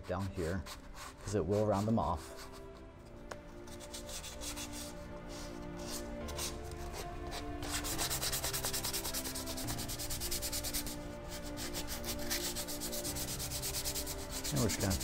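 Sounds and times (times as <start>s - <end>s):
sandpaper rubbing on wood: 0.0s - 2.7s, 3.7s - 15.0s.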